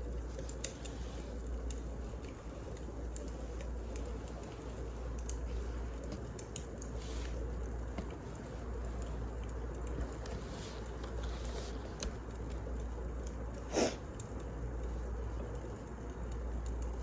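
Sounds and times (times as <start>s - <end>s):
low rumble and hiss: 0.0s - 17.0s
wood fire crackling: 0.0s - 17.0s.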